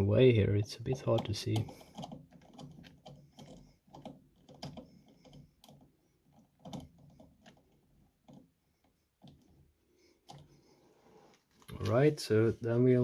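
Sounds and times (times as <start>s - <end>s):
small clicks of handling wires: 0.8s - 12.1s.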